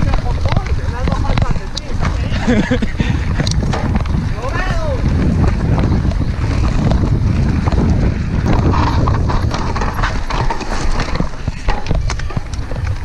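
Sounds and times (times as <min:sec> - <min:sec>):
bike rattling on bumps: 0:00.0 - 0:13.0
wind buffeting microphone: 0:00.0 - 0:13.0.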